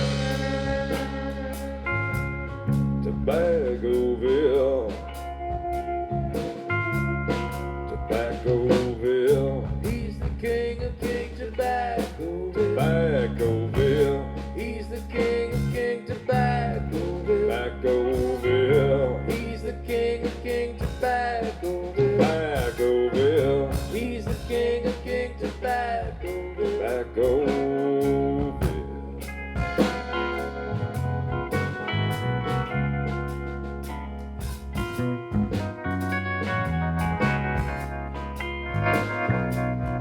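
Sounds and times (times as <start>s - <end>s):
bass: 0.0s - 40.0s
guitar melody with bending notes: 0.0s - 40.0s
steady drum beat: 0.0s - 40.0s.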